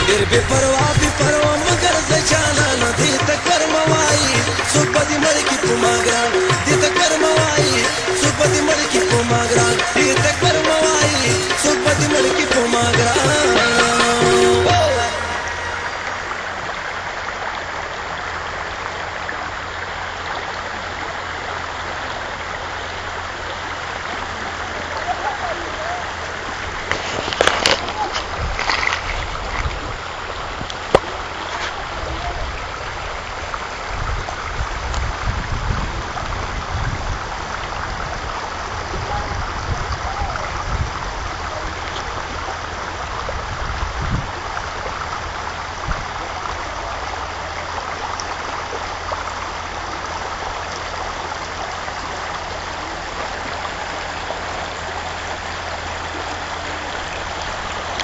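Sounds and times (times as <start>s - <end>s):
river rushing over gravel: 0.0s - 58.0s.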